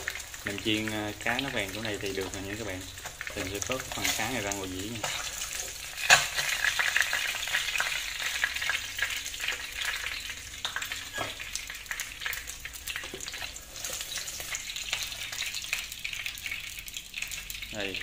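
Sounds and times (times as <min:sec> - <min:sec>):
oil sizzling in a frying pan: 0:00.0 - 0:18.0.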